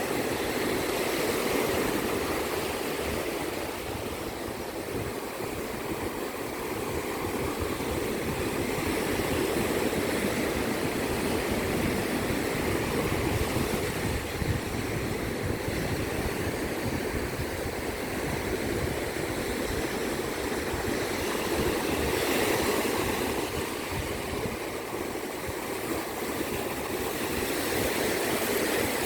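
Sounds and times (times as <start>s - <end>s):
ocean waves breaking on beach: 0.0s - 29.0s.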